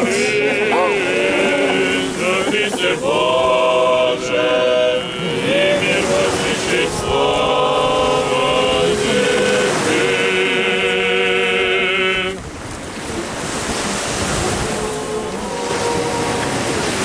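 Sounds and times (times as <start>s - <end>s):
voices singing a liturgical chant: 0.0s - 12.5s, 13.5s - 17.0s
sea waves: 0.0s - 17.0s
wind: 0.0s - 17.0s.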